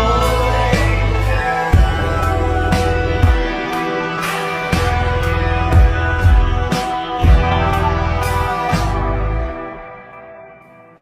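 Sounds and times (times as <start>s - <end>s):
sped-up song with guitar and drums: 0.0s - 11.0s.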